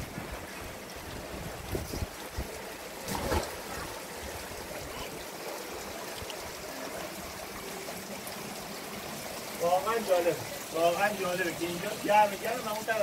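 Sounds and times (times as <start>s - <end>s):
stream water trickling: 0.0s - 13.0s.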